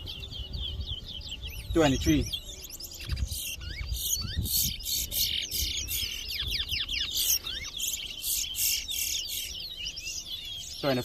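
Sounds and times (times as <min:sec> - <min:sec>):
finches whistling: 0:00.0 - 0:11.0.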